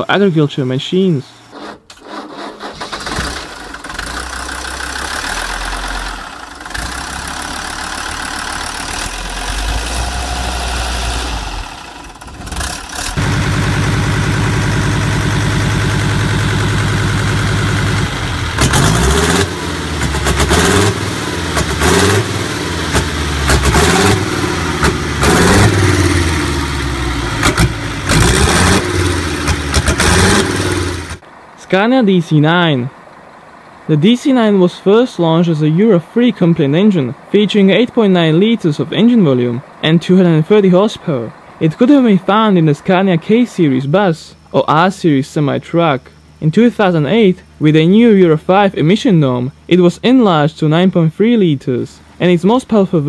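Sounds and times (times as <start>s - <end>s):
diesel engine revving: 1.4s - 50.4s
diesel engine idling: 2.6s - 53.0s.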